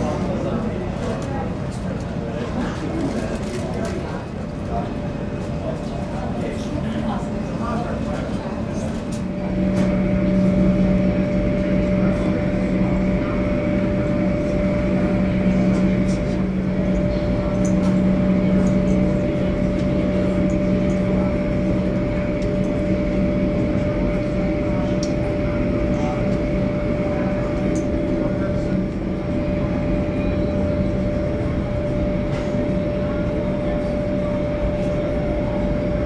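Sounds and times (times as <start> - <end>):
jet engine drone: 0.0 - 36.0
jet engine whine: 0.0 - 36.0.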